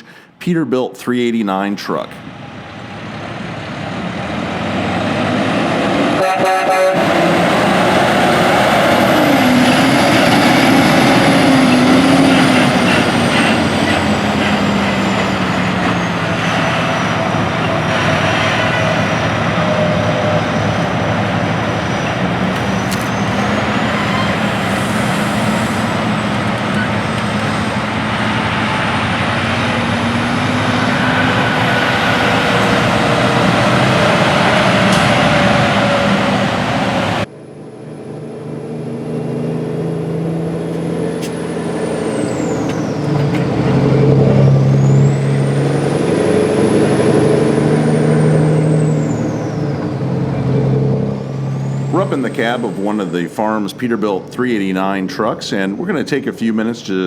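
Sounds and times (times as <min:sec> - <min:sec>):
truck diesel engine pulling away: 0:02.2 - 0:57.0.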